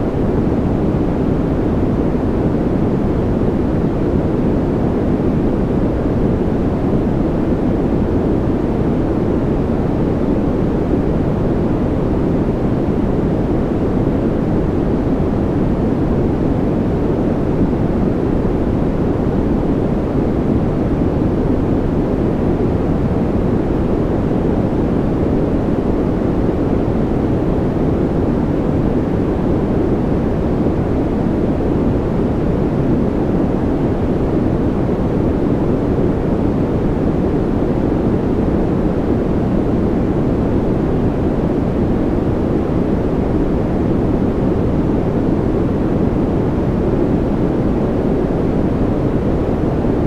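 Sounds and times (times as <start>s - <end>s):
deep white noise hiss: 0.0s - 50.0s.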